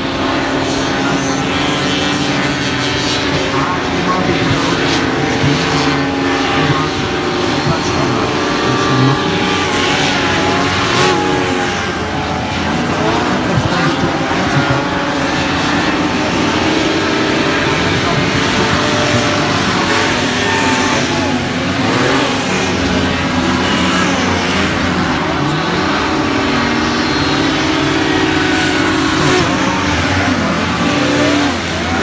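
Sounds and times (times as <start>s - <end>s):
racing hovercraft engines revving: 0.0s - 32.0s.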